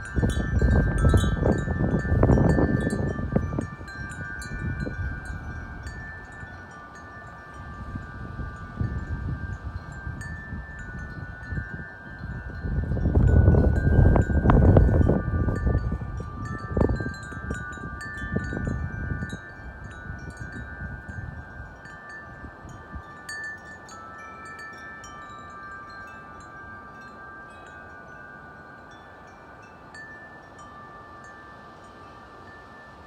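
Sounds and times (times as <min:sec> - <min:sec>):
wind gust buffeting microphone: 0:00.0 - 0:30.6
wind chimes ringing: 0:00.0 - 0:33.0.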